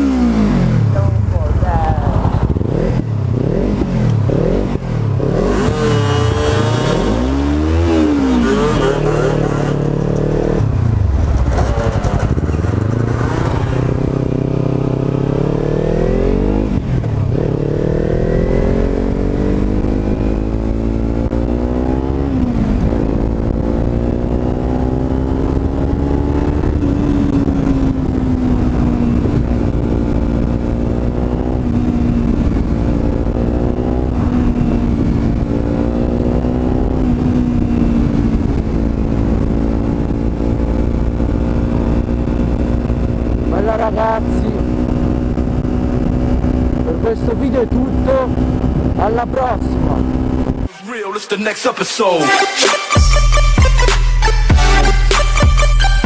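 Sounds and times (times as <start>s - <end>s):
motorcycle engine accelerating through gears: 0.0s - 50.7s.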